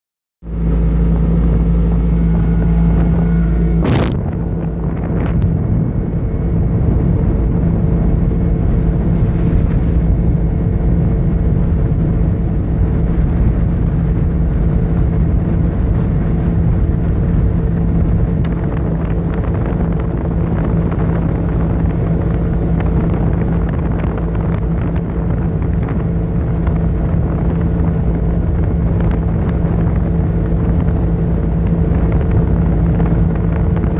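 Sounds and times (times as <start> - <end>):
outboard motor running: 0.4 - 33.9
wind buffeting microphone: 0.5 - 33.9.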